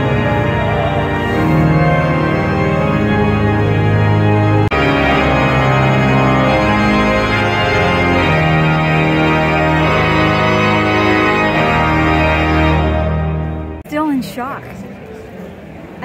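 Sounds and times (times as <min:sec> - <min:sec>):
pipe organ playing chords: 0:00.0 - 0:13.8.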